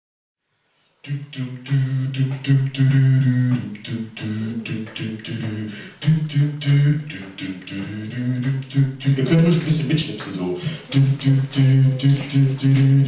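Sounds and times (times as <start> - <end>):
beatboxing into microphone: 1.0 - 13.0
low sung bass line: 1.1 - 10.2, 10.9 - 13.0.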